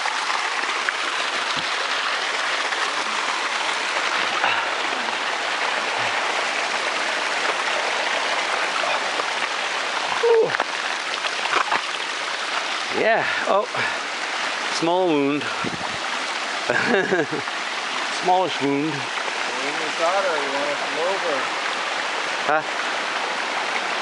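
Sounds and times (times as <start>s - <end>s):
waterfall splashing over rocks: 0.0s - 24.0s.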